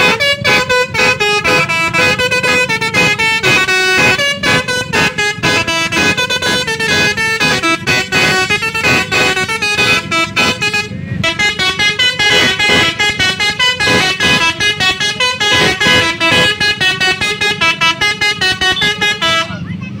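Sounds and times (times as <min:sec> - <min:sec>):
bus horn playing melody: 0:00.0 - 0:19.8.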